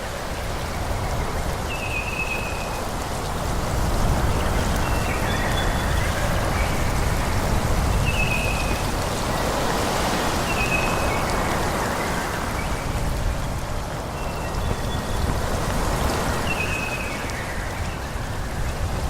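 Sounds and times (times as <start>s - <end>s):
wind rushing through trees: 0.0s - 19.0s.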